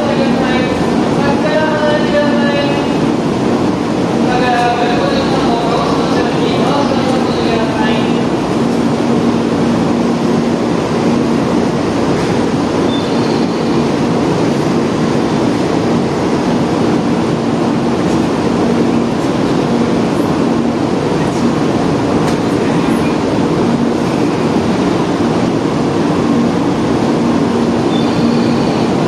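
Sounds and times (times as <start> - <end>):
steady hum: 0.0 - 29.0
train equipment rushing drone: 0.0 - 29.0.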